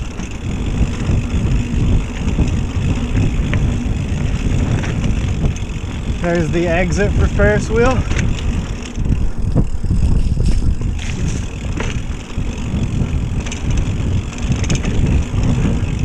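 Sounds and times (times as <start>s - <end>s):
bike rattles: 0.0s - 16.0s
tyres rumbling on dirt: 0.0s - 16.0s
wind buffeting microphone: 0.0s - 16.0s.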